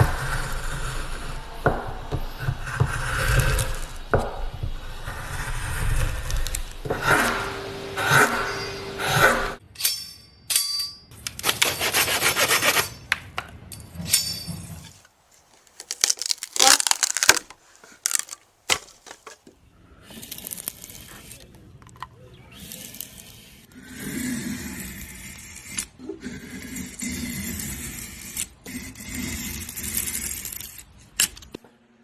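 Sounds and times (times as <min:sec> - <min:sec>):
tools scraping wood: 0:00.0 - 0:09.6, 0:11.2 - 0:13.2, 0:13.8 - 0:31.6.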